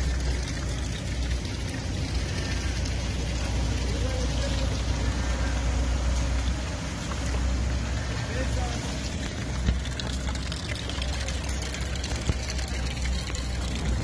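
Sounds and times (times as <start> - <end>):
constant low rumble: 0.0 - 14.0
rain falling on water: 0.0 - 14.0.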